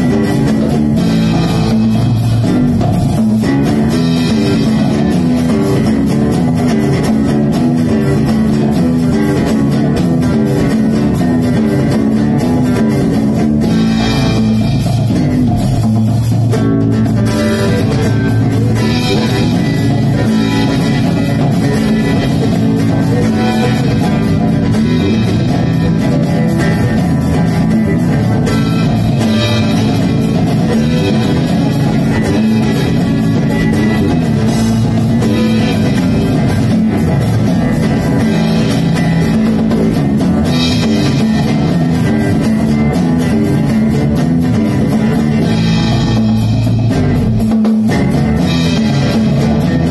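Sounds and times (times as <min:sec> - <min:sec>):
cajon and cymbal: 0:00.0 - 0:49.9
electric bass guitar: 0:00.0 - 0:49.9.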